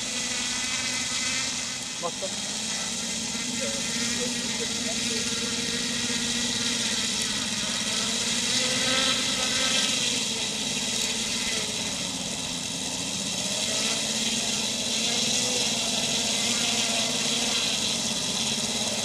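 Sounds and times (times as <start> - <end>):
model aircraft engines running: 0.0 - 19.0.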